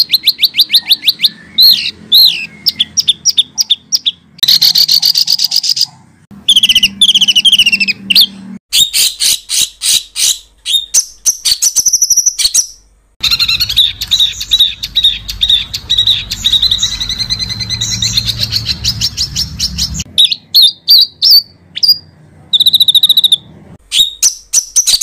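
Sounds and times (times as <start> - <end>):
songbird chirps and trills: 0.0 - 25.0.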